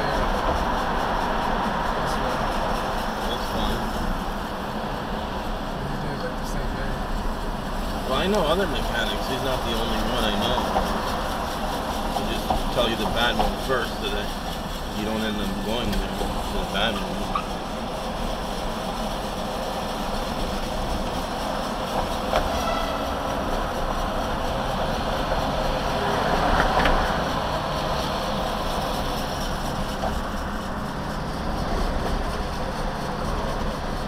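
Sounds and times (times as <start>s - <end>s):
vehicle road noise from cabin: 0.0s - 34.0s.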